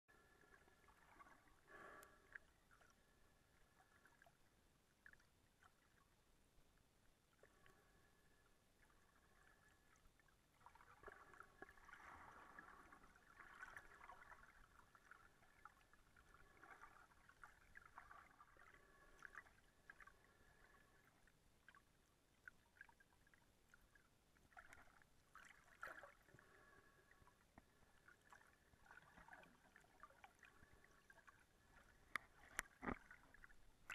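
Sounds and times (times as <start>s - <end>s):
muffled underwater sound: 0.1s - 33.9s.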